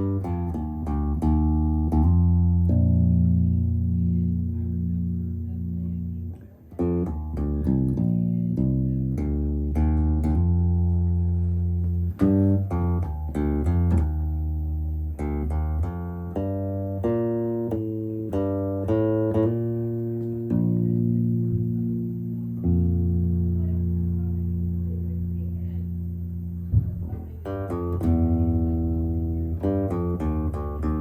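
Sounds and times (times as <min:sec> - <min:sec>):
electric bass playing: 0:00.0 - 0:31.0.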